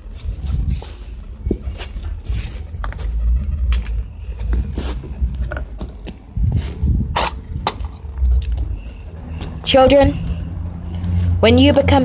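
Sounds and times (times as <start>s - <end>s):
low rumble of phone microphone: 0.0s - 12.0s.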